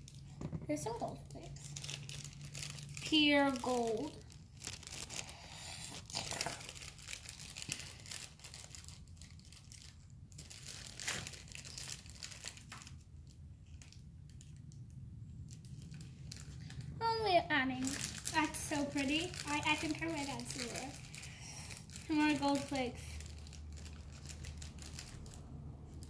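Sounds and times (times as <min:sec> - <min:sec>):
foil crinkling and tearing: 0:00.0 - 0:14.6, 0:15.4 - 0:17.0, 0:17.7 - 0:26.0.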